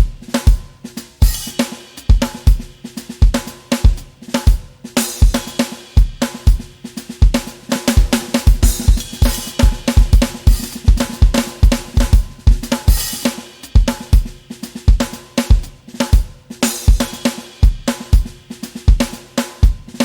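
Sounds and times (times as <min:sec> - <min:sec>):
drum kit beat music: 0:00.0 - 0:20.0.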